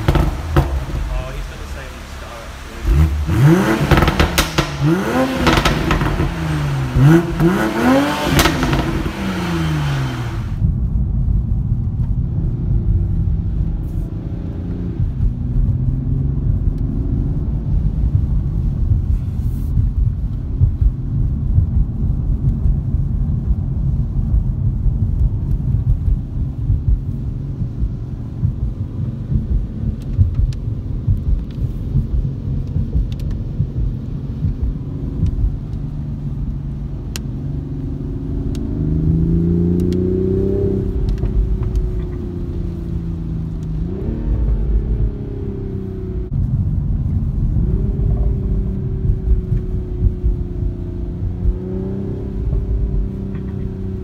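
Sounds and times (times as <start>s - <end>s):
car engine revving: 0.0s - 10.8s, 12.4s - 54.0s
engine and road rumble: 0.0s - 54.0s.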